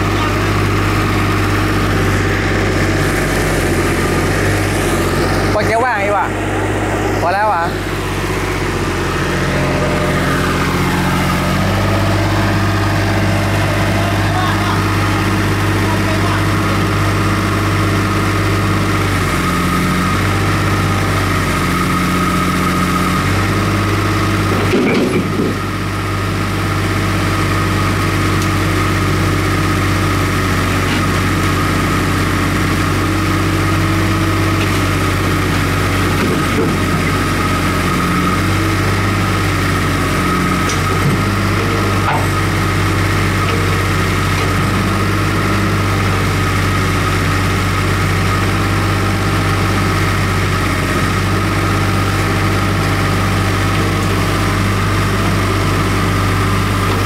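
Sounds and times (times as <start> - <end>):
mini excavator engine running: 0.0 - 57.0.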